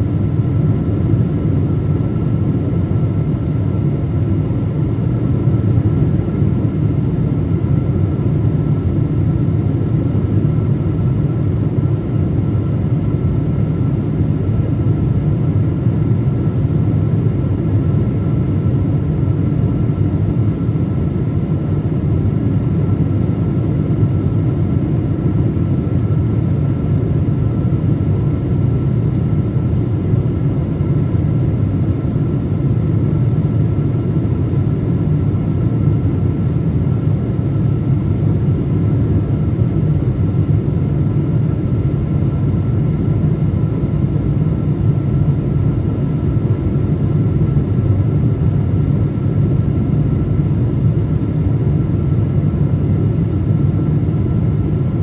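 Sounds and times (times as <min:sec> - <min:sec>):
airplane cabin rumble: 0:00.0 - 0:55.0
faint steady whine: 0:00.0 - 0:55.0.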